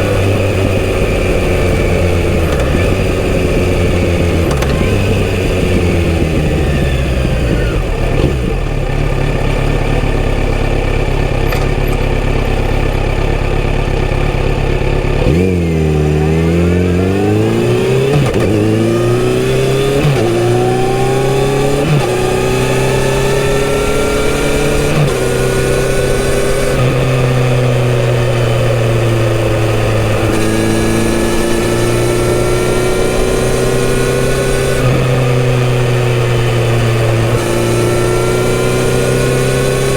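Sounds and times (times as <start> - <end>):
motorcycle engine revving and accelerating: 0.0 - 39.9.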